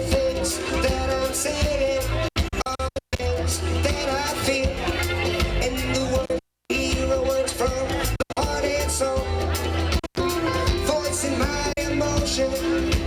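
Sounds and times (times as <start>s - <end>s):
bass line: 0.0s - 13.0s
reggae band playing: 0.0s - 13.0s.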